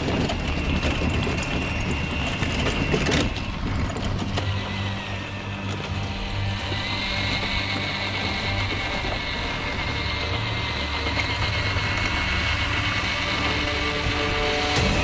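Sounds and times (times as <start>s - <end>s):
background music: 0.0s - 15.0s
electric motor whine: 0.0s - 15.0s
tyres crunching on dirt: 0.0s - 15.0s.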